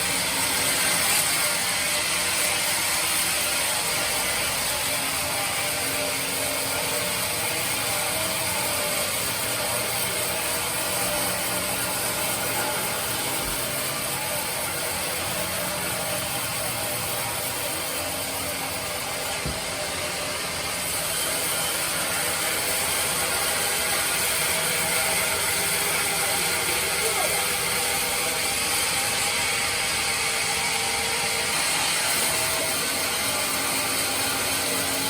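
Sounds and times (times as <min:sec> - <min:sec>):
bandsaw sawing wood: 0:00.0 - 0:35.0.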